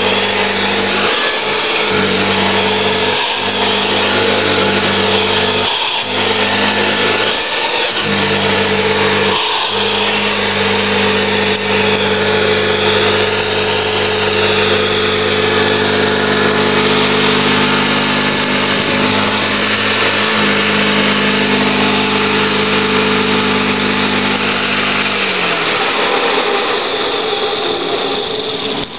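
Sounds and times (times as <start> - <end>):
vacuum cleaner low hum: 0.0 - 28.9
vacuum motor whine: 0.0 - 28.9.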